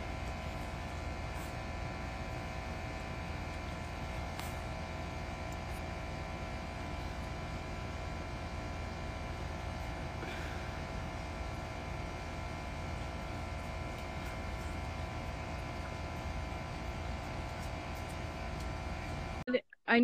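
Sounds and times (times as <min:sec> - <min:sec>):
steady hum with held tones: 0:00.0 - 0:20.0.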